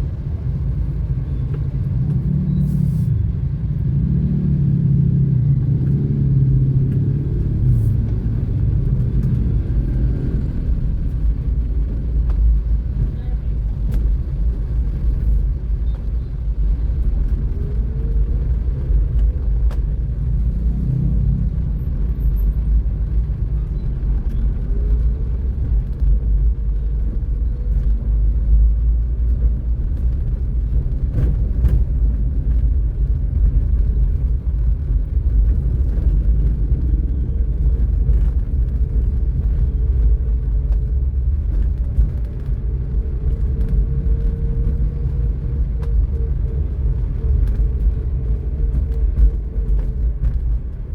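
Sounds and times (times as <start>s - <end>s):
vehicle driving on road: 0.0s - 50.9s.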